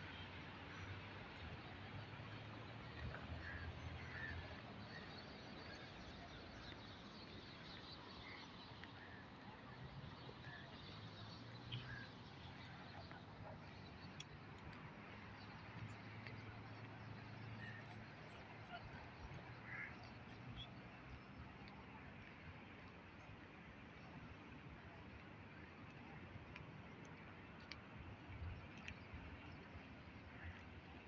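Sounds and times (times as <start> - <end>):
faint background noise: 0.0 - 31.0.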